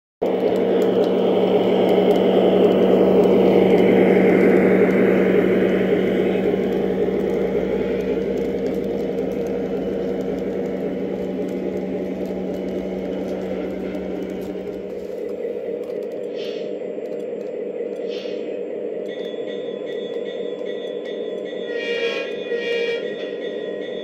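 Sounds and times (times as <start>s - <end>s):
model train rolling on track: 0.2s - 24.0s.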